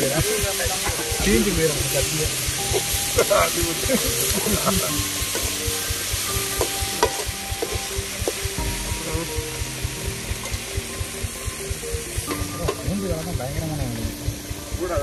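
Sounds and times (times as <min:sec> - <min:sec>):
food sizzling in pan: 0:00.0 - 0:15.0
low rapid pulsing: 0:00.6 - 0:15.0.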